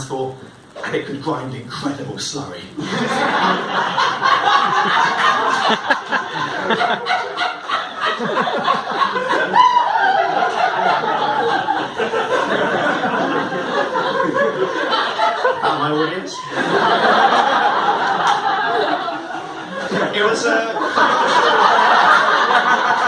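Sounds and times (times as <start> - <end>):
audience laughing: 2.8 - 23.0.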